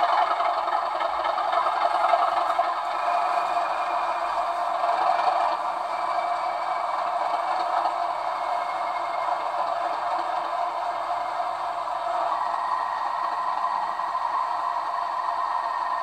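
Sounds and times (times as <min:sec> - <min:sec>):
model railway hum and rattle: 0:00.0 - 0:16.0.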